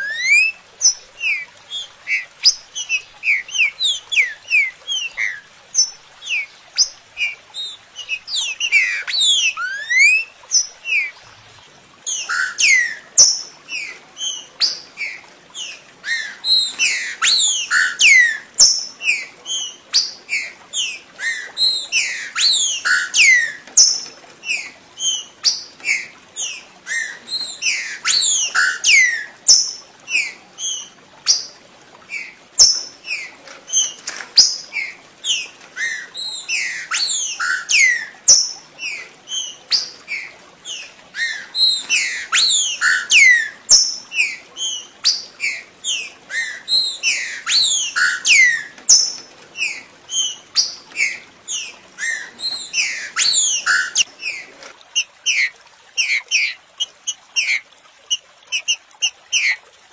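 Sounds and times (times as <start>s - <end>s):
bird whistled song: 0.0s - 11.2s, 12.0s - 31.5s, 32.1s - 54.1s.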